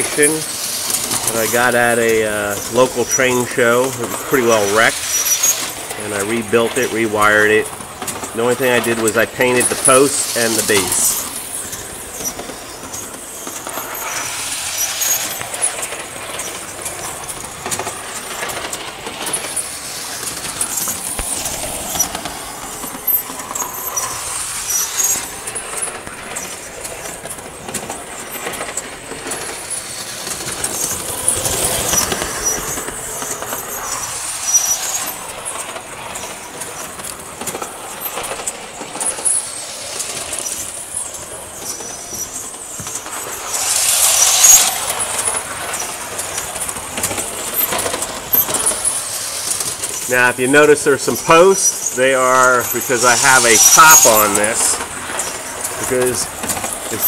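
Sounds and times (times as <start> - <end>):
model train clattering: 0.0 - 57.0.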